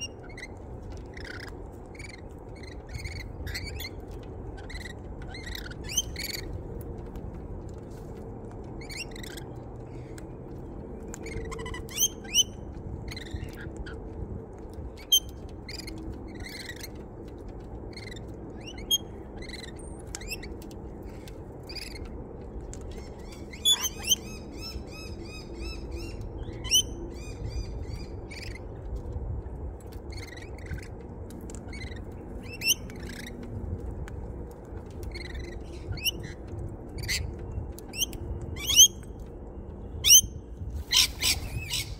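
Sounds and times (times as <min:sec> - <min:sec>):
birds chirping and calling: 0:00.0 - 0:07.1, 0:08.6 - 0:10.4, 0:11.0 - 0:14.1, 0:14.8 - 0:29.1, 0:30.0 - 0:33.5, 0:34.8 - 0:39.3, 0:40.0 - 0:41.9
steady low rumble: 0:00.0 - 0:41.9.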